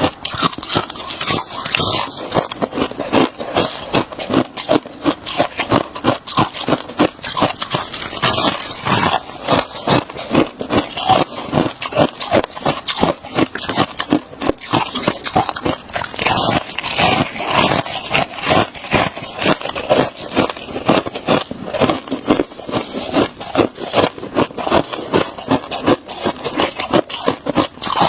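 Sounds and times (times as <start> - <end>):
chewing frost crunches: 0.0 - 28.0.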